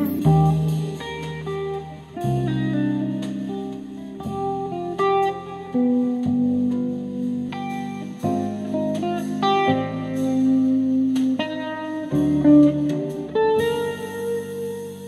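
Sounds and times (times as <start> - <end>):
jazz piano quartet through speaker: 0.0 - 15.0.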